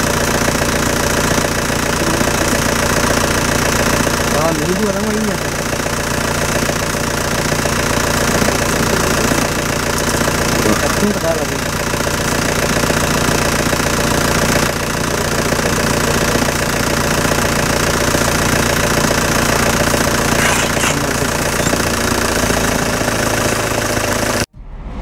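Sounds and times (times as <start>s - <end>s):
jeep engine idling: 0.0s - 24.4s.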